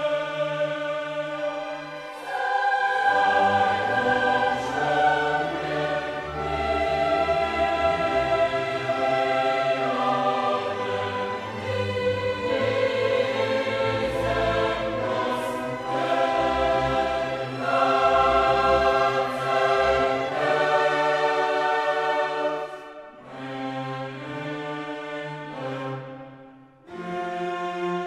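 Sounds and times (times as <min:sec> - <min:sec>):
choir singing held chords: 0:00.0 - 0:27.0
orchestra: 0:00.0 - 0:28.0.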